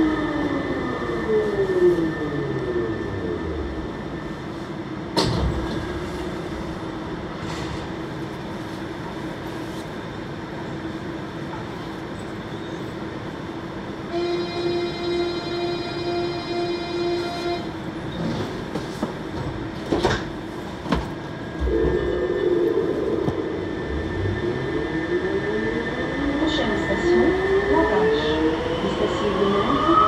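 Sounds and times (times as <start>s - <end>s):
train running noise: 1.0s - 30.0s.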